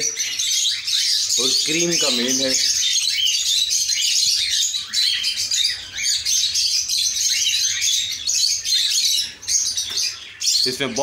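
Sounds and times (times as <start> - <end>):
cockatiels chirping: 0.0 - 11.0.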